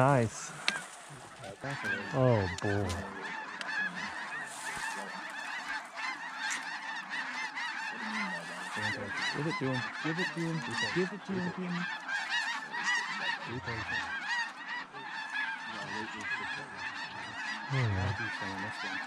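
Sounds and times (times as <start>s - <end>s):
flock of geese honking: 0.0s - 19.0s.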